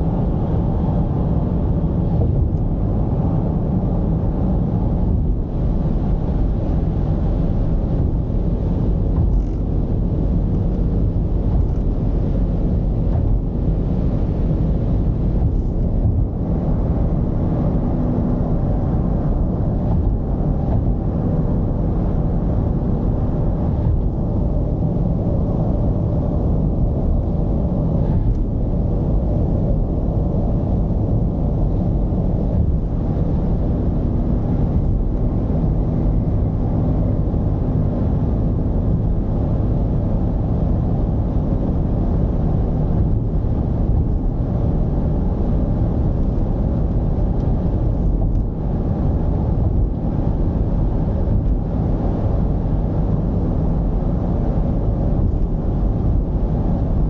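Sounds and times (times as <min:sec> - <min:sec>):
road noise: 0:00.0 - 0:57.0
van diesel engine rumble: 0:00.0 - 0:57.0.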